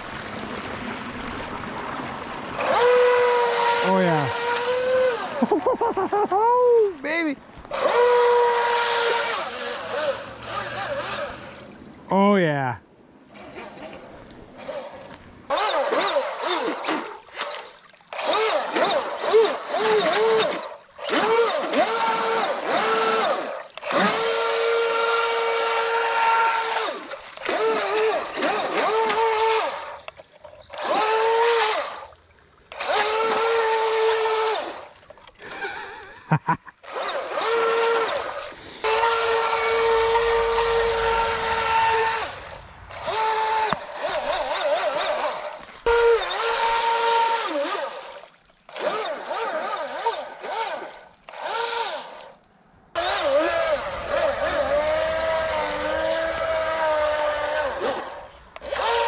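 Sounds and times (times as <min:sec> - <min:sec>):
toy boat electric motor whining: 0:02.6 - 0:05.6, 0:07.6 - 0:11.9, 0:13.3 - 0:59.0.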